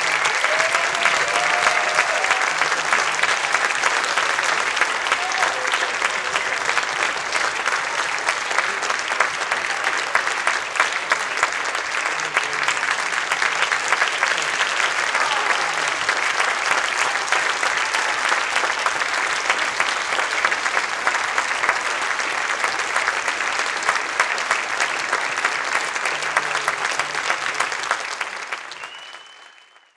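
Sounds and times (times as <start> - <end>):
audience applauding: 0.0 - 29.9.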